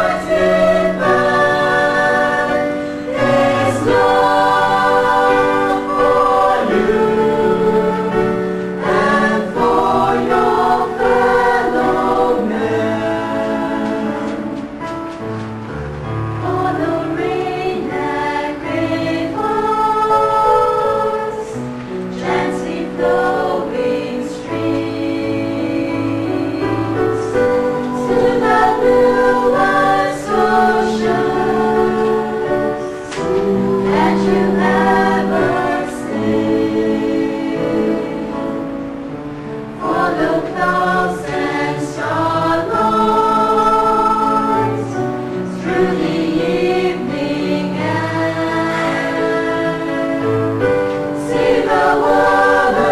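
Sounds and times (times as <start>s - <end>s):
church choir singing in harmony: 0.0s - 52.9s.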